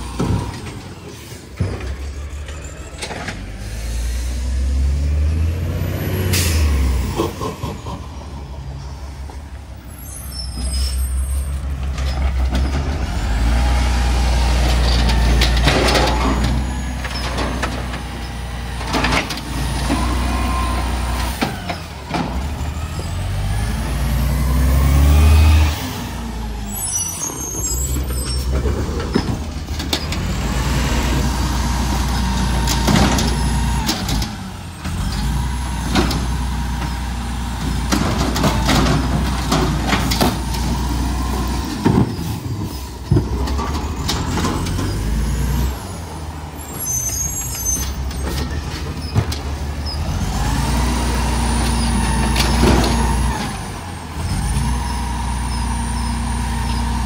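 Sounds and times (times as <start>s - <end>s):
garbage truck engine revving: 0.0s - 9.7s, 10.4s - 57.0s.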